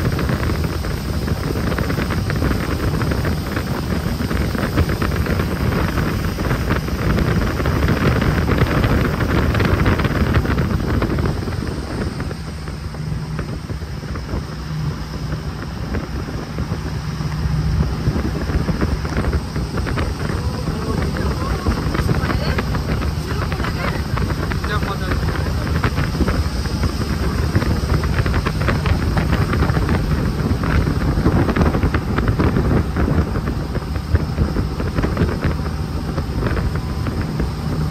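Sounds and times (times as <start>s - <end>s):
boat engine hum: 0.0s - 37.9s
wind buffeting microphone: 0.0s - 37.9s.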